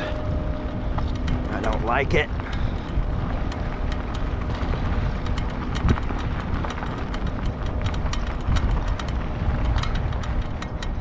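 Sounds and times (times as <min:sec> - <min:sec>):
bicycle rattles and clicks: 0:00.0 - 0:11.0
bicycle rolling over bumpy path: 0:00.0 - 0:11.0.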